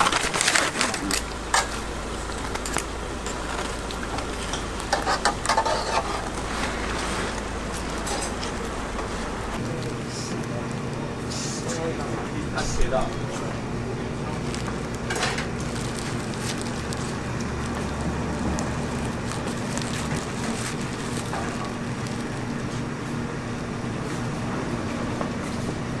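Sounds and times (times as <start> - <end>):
constant low hum: 0.0 - 26.0.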